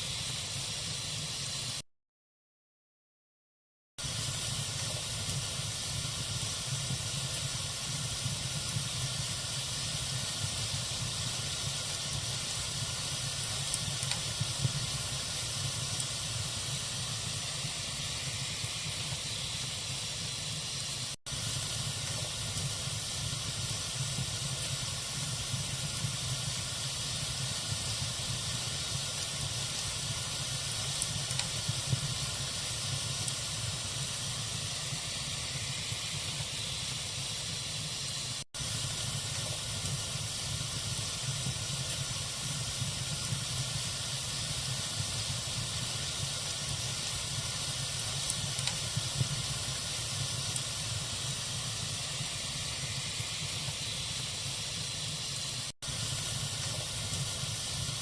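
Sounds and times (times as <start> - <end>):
log fire hissing and crackling: 0.0 - 1.8, 4.0 - 58.0.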